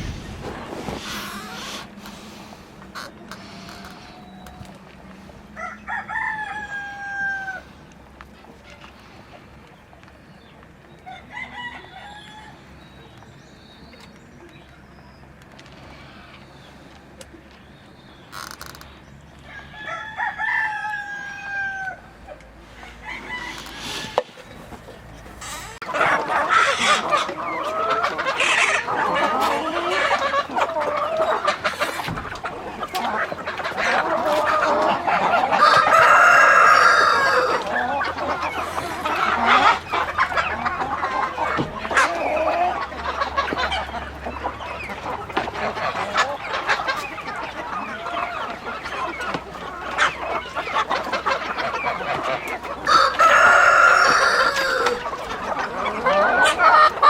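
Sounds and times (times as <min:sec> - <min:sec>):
chickens clucking: 0:00.0 - 0:57.0
drawn-out chicken call: 0:00.0 - 0:57.0.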